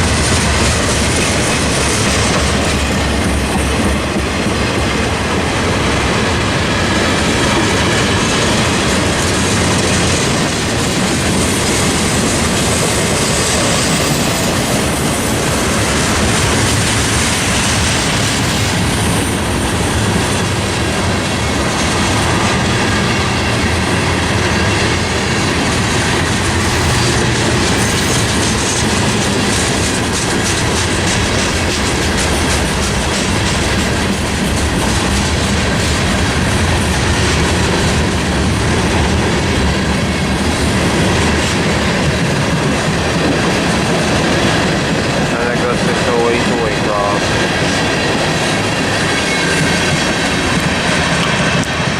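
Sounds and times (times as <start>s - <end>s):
train wheels clattering on rails: 0.0s - 51.9s.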